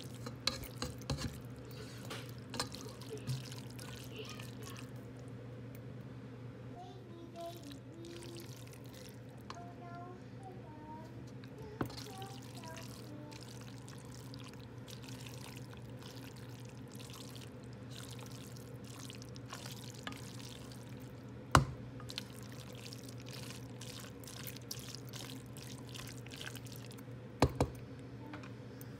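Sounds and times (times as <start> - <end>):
sauce crackling in a pot: 0.0 - 6.0, 7.4 - 9.6, 11.3 - 27.8.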